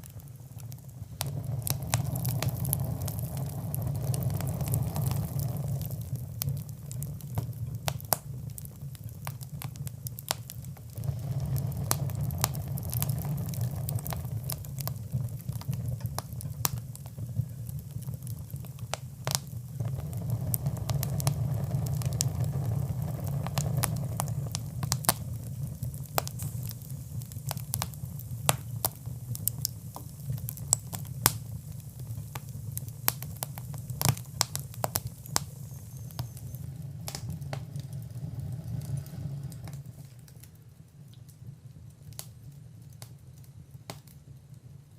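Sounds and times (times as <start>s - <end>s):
fire crackling and popping: 0.0s - 44.9s
low rumble of flames: 0.0s - 44.9s.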